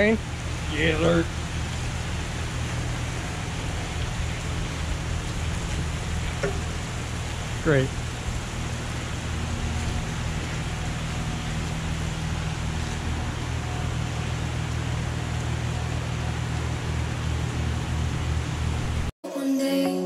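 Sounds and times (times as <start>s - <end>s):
heavy rain hissing: 0.0s - 19.1s
steady low hum: 0.0s - 19.1s.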